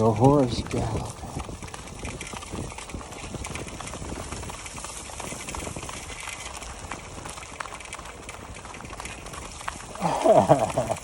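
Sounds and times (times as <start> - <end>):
dog boots clip-clopping on pavement: 0.0 - 11.0.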